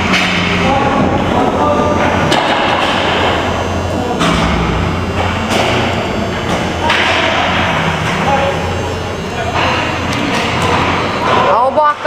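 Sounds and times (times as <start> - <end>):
indistinct voices: 0.0 - 12.0
steady low hum: 0.0 - 12.0.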